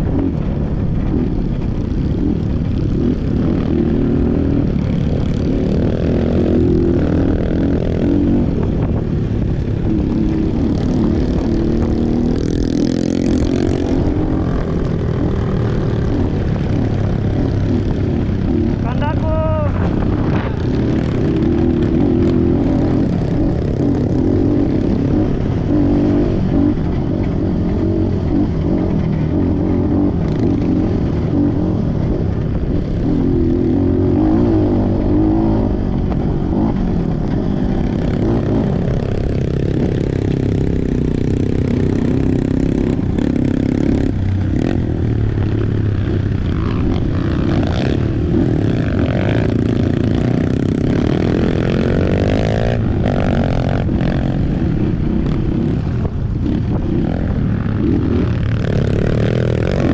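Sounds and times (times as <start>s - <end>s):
bike rattling over rough ground: 0.0s - 59.9s
motorcycle engine running: 0.0s - 59.9s.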